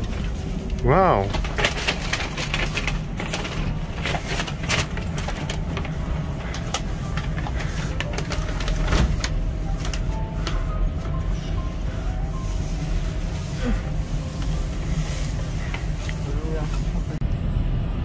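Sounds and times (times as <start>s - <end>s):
paper bag rustling: 0.0s - 17.2s
train carriage hum: 0.0s - 18.0s.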